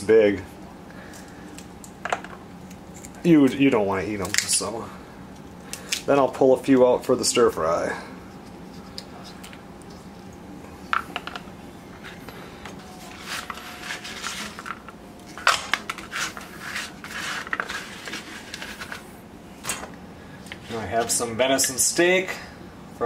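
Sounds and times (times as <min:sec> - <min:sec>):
faint room hum: 0:00.0 - 0:23.0.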